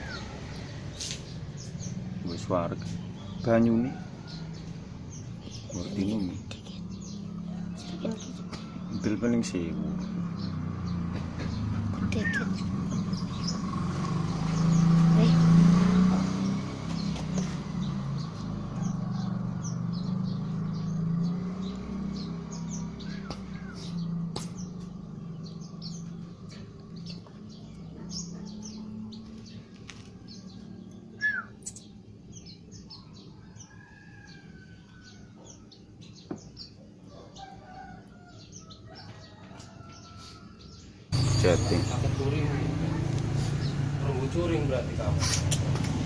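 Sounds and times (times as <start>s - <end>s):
young birds chirping: 0.0s - 46.0s.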